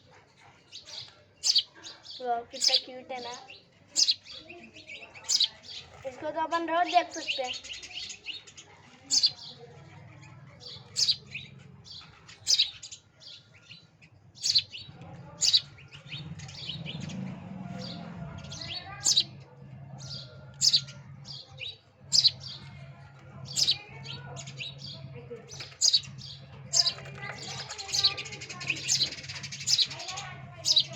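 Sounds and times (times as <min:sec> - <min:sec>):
young bird chirping: 0:00.8 - 0:06.0, 0:06.9 - 0:09.6, 0:10.6 - 0:13.8, 0:14.4 - 0:17.2, 0:17.8 - 0:19.4, 0:20.1 - 0:22.7, 0:23.5 - 0:30.9.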